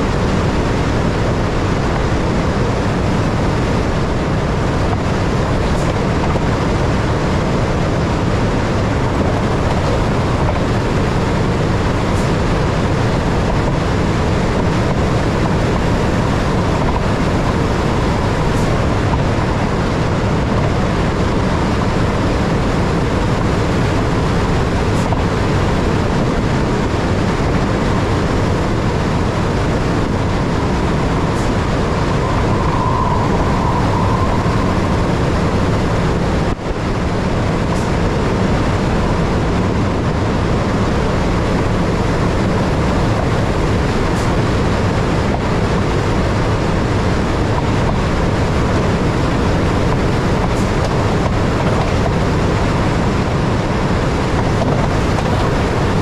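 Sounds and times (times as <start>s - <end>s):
high speed train rumble: 0.0s - 56.0s.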